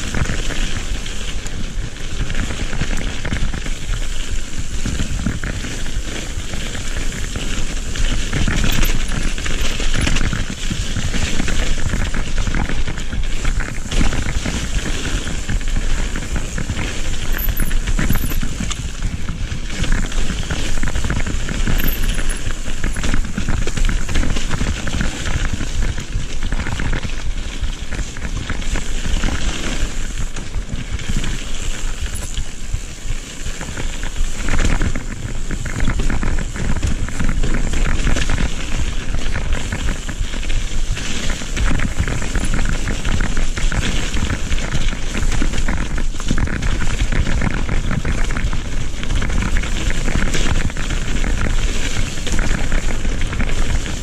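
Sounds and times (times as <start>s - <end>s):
bike rattling over bumps: 0.0s - 54.0s
tyres crunching over dirt trail: 0.0s - 54.0s
wind rumbling on microphone: 0.0s - 54.0s.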